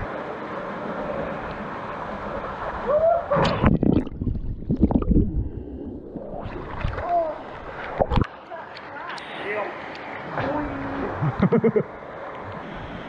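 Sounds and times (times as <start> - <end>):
splashing and churning water: 0.0 - 13.0.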